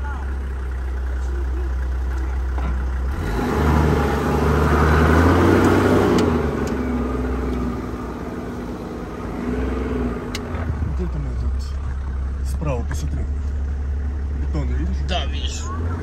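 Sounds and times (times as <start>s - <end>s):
car engine heard from inside: 0.0s - 16.0s.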